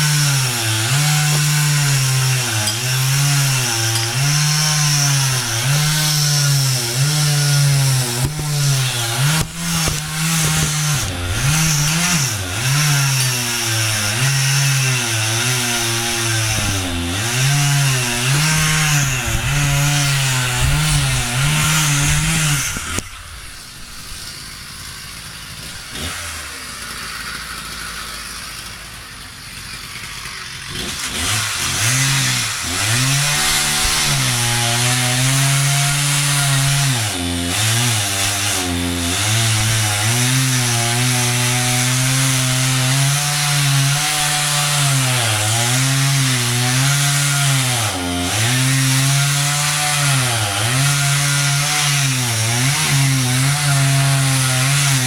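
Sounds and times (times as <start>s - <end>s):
chainsaw cutting into tree: 0.0s - 55.0s.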